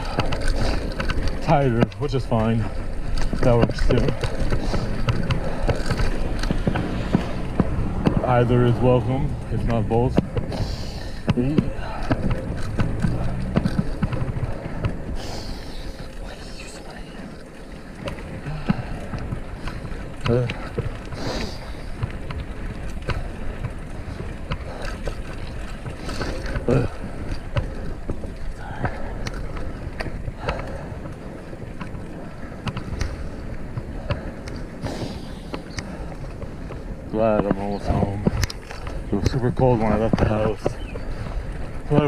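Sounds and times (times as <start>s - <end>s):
bicycle road noise: 0.0s - 42.0s
wind rumble on microphone: 0.0s - 42.0s.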